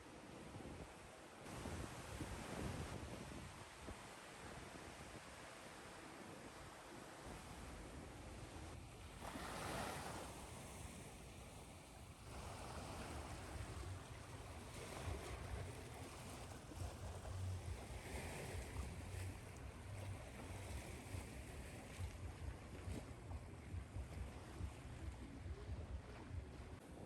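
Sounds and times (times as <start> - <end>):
ocean surf washing: 1.5 - 26.4.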